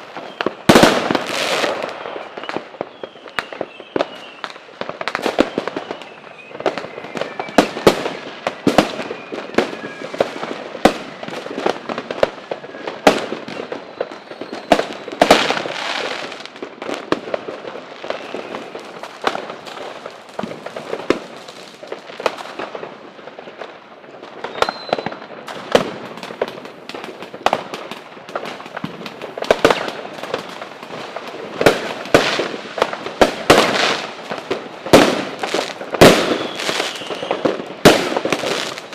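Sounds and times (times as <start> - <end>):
falling firework whistles: 0.0 - 22.9, 24.4 - 38.9
fireworks bangs and crackling: 0.0 - 38.9.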